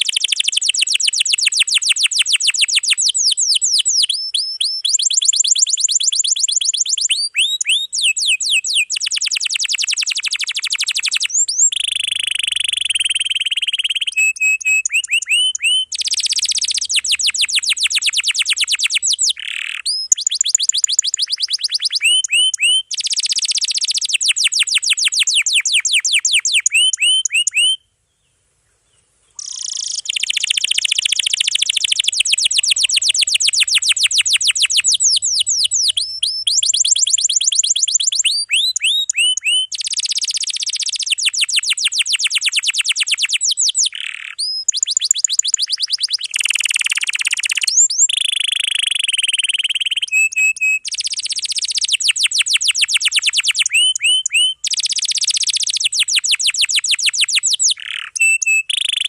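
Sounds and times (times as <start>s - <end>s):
canary trilling: 0.0s - 27.8s, 29.4s - 59.0s.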